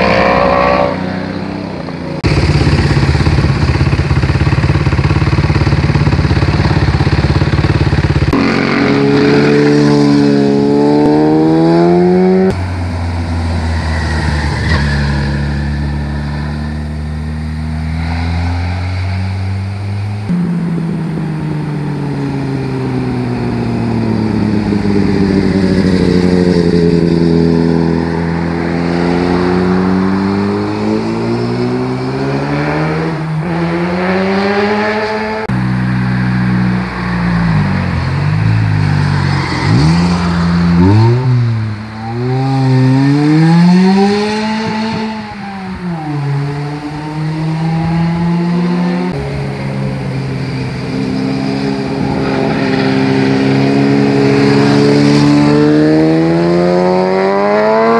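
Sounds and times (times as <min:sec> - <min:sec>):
motorcycle engines passing: 0:00.0 - 0:57.9.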